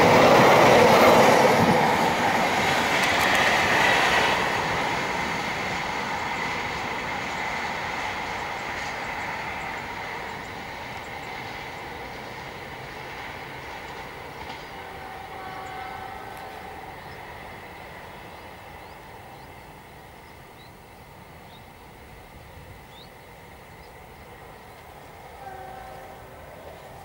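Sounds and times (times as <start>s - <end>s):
train rumble and rail noise: 0.0s - 27.0s.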